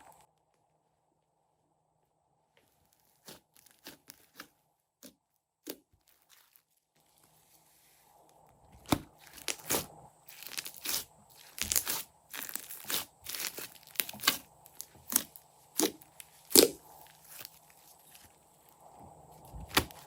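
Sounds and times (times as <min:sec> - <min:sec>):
crunchy slime crackling and popping: 0:02.7 - 0:07.3, 0:08.3 - 0:20.0.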